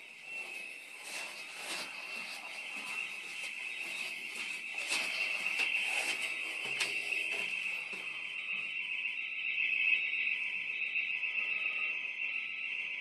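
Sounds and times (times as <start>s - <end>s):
burglar alarm siren: 0.0s - 13.0s.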